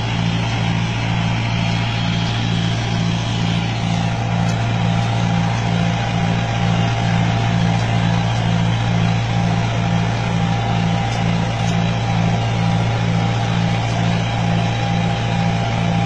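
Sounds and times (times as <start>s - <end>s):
machine engine droning under load: 0.0s - 16.0s.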